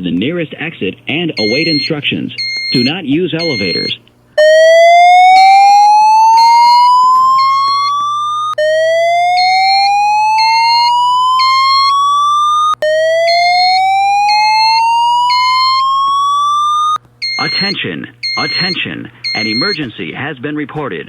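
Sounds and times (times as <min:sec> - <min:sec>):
high-pitched beeps: 0:01.4 - 0:04.6, 0:05.3 - 0:08.7, 0:09.3 - 0:19.8
fire alarm whoop tone: 0:01.4 - 0:19.8.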